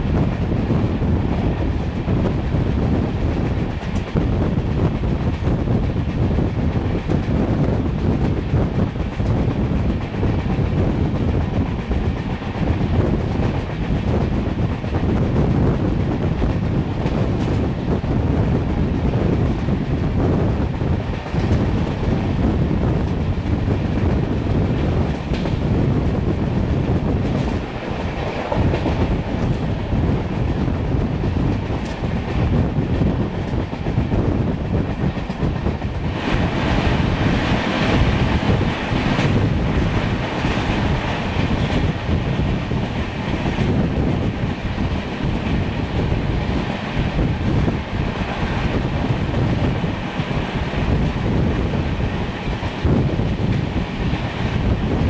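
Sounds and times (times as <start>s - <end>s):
train wheels rumbling on rail: 0.0s - 55.0s
rail joint clicks: 0.1s - 55.0s.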